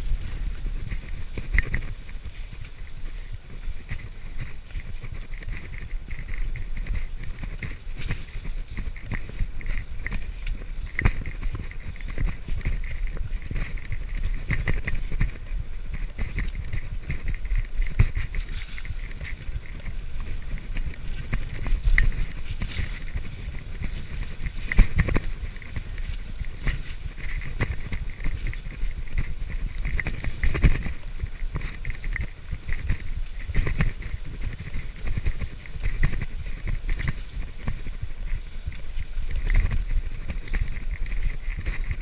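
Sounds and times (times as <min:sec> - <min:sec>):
bike rattling and knocking: 0:00.0 - 0:42.0
bike tyres rumbling: 0:00.0 - 0:42.0.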